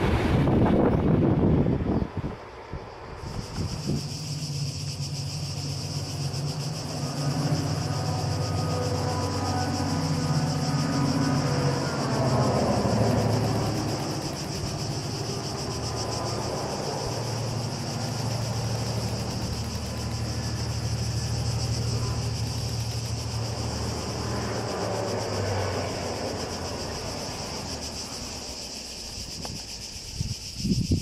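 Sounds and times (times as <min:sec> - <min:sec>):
distant diesel locomotive drone: 0:00.0 - 0:30.8
cicadas buzzing: 0:00.0 - 0:31.0.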